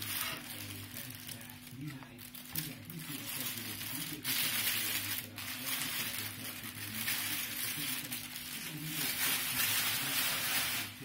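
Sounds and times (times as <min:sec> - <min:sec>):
low steady hum: 0:00.0 - 0:11.0
plastic bag rustling: 0:00.0 - 0:11.0.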